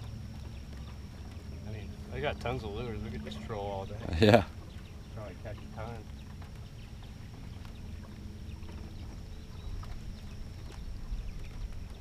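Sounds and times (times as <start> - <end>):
boat motor rumble: 0.0 - 12.0.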